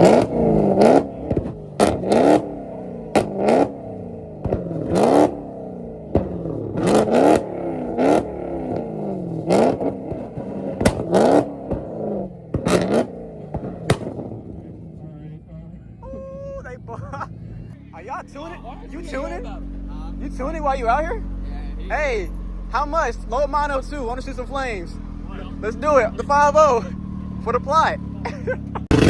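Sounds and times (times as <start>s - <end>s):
exhaust cracks: 0.0s - 17.6s, 18.3s - 29.0s
car engine revving: 0.0s - 29.0s.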